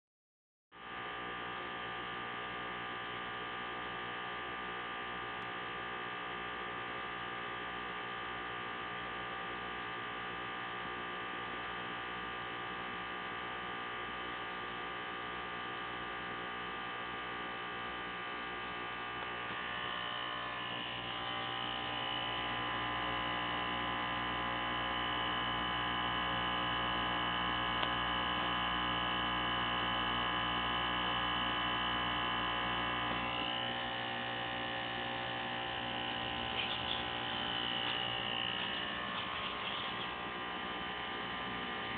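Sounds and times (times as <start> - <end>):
aquarium equipment buzzing: 0.8 - 41.9.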